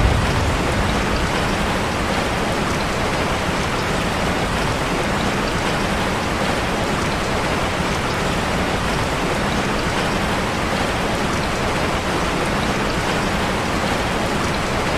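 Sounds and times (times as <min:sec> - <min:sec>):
heavy rain on a metal roof: 0:00.0 - 0:14.9.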